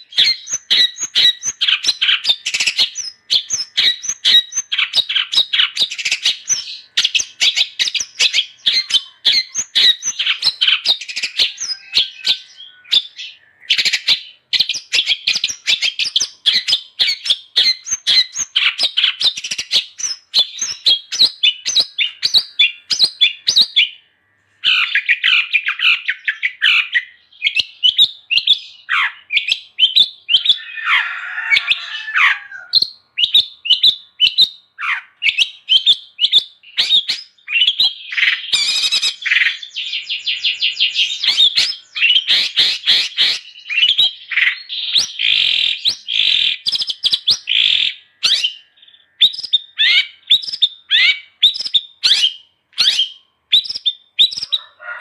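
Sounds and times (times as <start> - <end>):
bird rasping call: 0.0 - 24.0, 28.9 - 35.3, 40.4 - 55.0
bird chattering song: 0.0 - 55.0.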